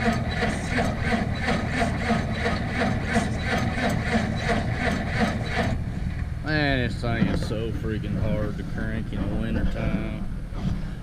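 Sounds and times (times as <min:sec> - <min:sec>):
diesel engine cranking over: 0:00.0 - 0:11.0.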